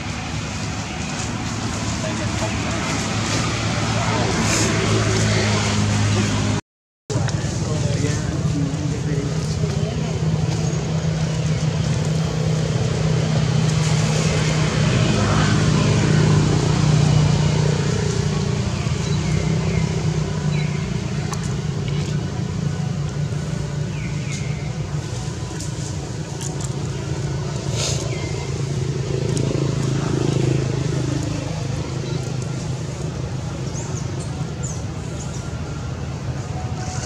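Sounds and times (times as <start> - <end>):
engine humming: 0.0 - 37.0.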